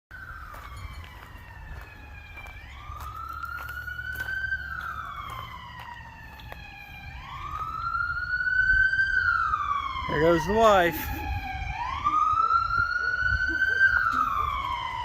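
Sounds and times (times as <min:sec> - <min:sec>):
emergency vehicle siren wailing: 0:00.1 - 0:15.0.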